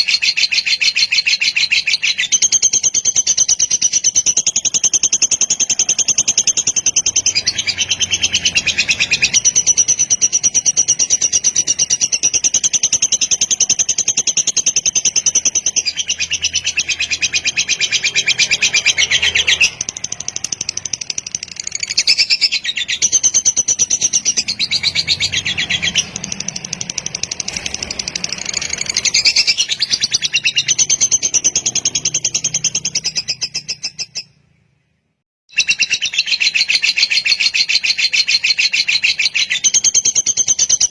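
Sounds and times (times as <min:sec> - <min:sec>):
lovebird trilling chatter: 0:00.0 - 0:34.3.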